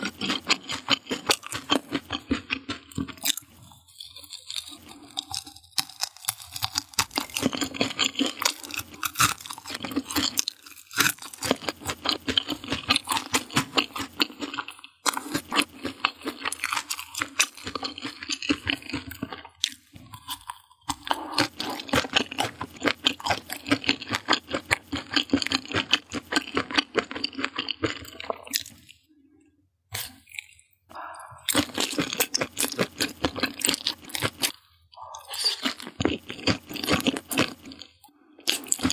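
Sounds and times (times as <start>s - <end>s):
crunchy chewing: 0.0s - 29.1s, 29.9s - 38.9s.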